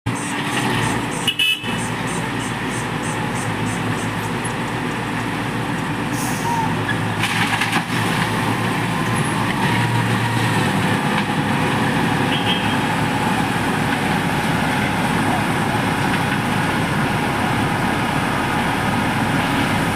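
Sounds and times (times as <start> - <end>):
heavy diesel engines running: 0.1 - 19.9.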